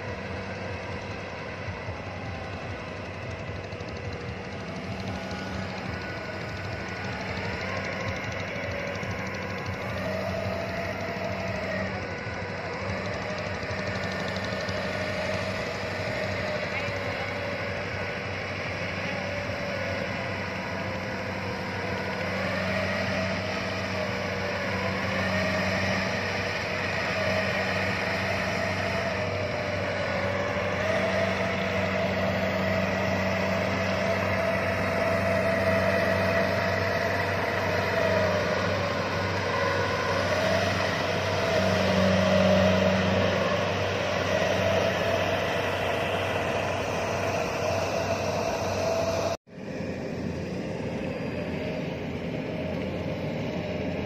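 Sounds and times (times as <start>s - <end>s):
combine harvester engine running: 0.0s - 54.0s
whine rising and falling in pitch: 0.0s - 54.0s.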